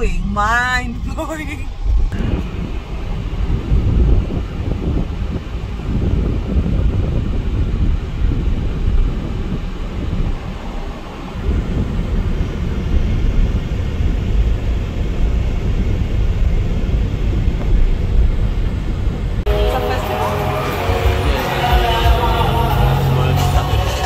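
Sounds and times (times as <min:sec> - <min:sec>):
wind buffeting microphone: 0:00.0 - 0:19.5
car rumbling in traffic: 0:00.0 - 0:24.0.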